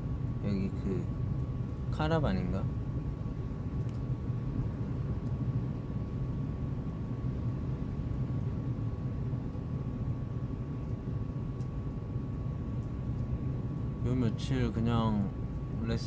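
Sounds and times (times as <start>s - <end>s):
low rumbling hum: 0.0s - 16.0s.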